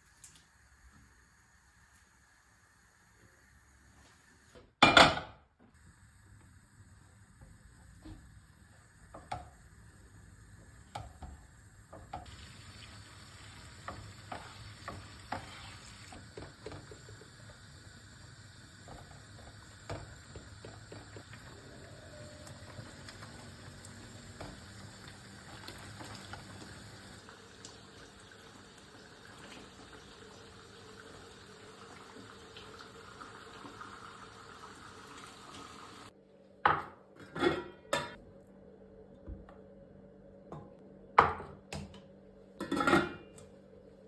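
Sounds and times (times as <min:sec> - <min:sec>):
faint steady background hum: 0:04.6 - 0:44.0.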